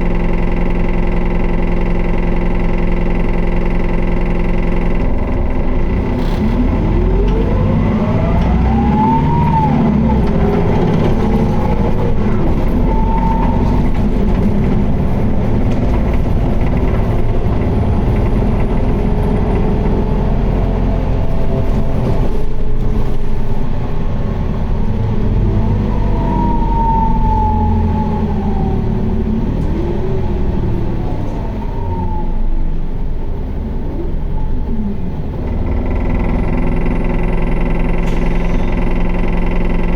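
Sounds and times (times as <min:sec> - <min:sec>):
gear whine: 0:00.0 - 0:33.2, 0:33.8 - 0:39.9
bus diesel engine drone: 0:00.0 - 0:39.9
road noise: 0:04.9 - 0:39.9.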